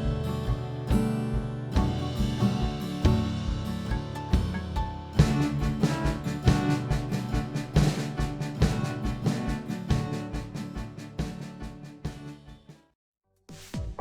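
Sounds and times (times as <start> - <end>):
background music with drum beat: 0.0 - 12.7, 13.5 - 14.0.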